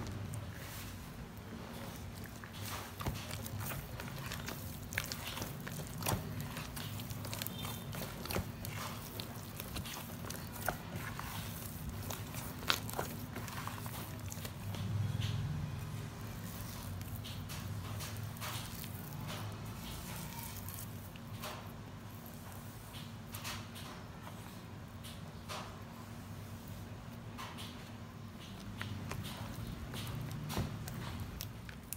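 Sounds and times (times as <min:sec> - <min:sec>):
hand squelching wet batter: 0:00.0 - 0:31.9.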